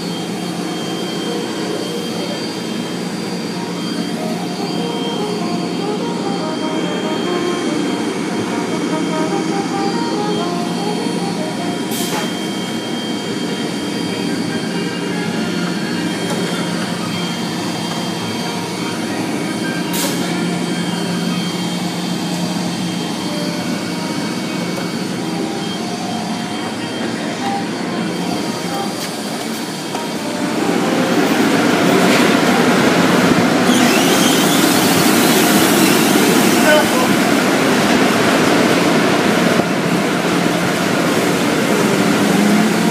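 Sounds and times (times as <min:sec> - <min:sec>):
car wash machinery humming: 0:00.0 - 0:42.9.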